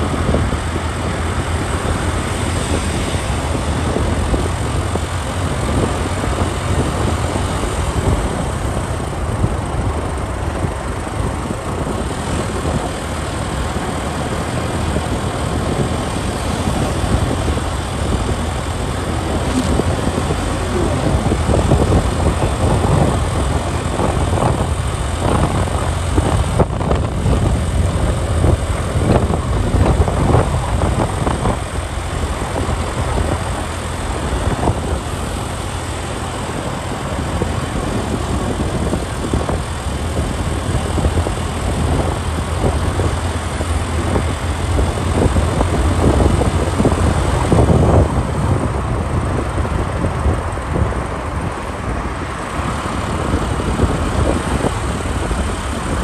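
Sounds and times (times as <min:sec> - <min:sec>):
motorcycle and road rumble: 0:00.0 - 0:56.0
wind buffeting microphone: 0:00.0 - 0:56.0.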